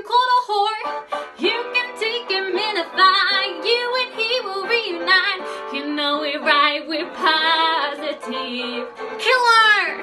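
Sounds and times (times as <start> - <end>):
instrumental backing music: 0.0 - 10.0
woman singing upbeat song: 0.0 - 10.0.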